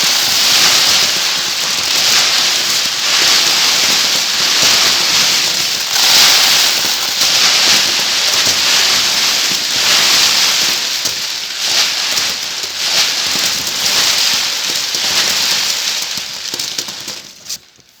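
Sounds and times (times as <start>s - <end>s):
rice trickling into a container: 0.0s - 17.8s
plastic bag rubbing: 0.0s - 17.9s
foil scraps dropping: 0.0s - 18.0s.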